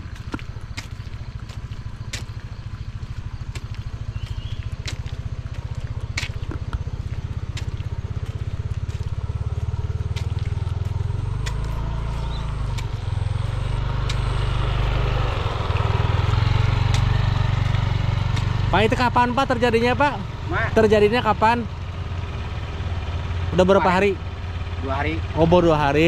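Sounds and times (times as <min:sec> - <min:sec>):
road noise: 0:00.0 - 0:26.0
vehicle engine hum: 0:00.0 - 0:26.0.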